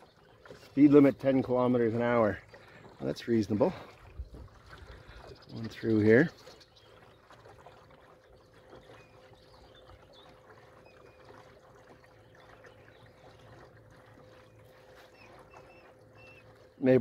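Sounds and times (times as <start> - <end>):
water trickling along hull: 0.0 - 17.0.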